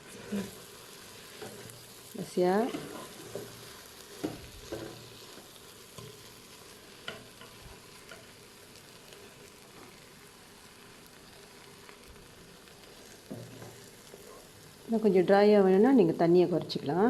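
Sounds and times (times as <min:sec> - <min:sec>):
faint sizzling in a pot: 0:00.0 - 0:17.0.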